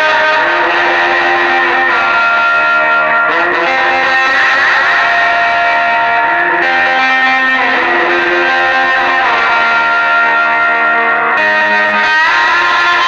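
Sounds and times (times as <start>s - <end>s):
slide electric guitar: 0.0s - 13.0s.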